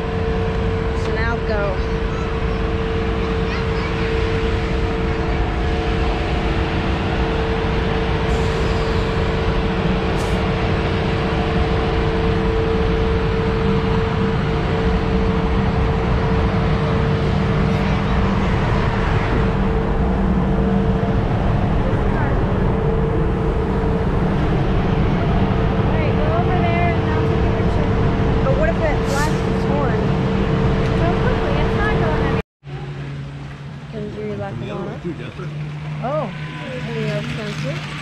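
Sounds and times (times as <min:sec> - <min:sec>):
diesel locomotive engine idling: 0:00.0 - 0:38.0.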